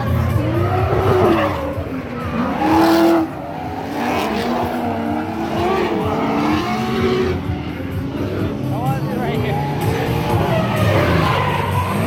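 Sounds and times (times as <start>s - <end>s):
car engines revving: 0.0s - 12.0s
tires screeching: 0.0s - 12.0s.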